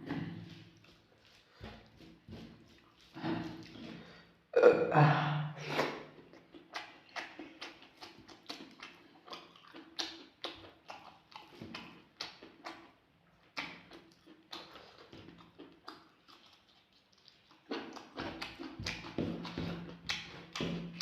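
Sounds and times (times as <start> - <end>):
wet chewing and lip smacks: 0.2 - 4.2, 5.8 - 21.0.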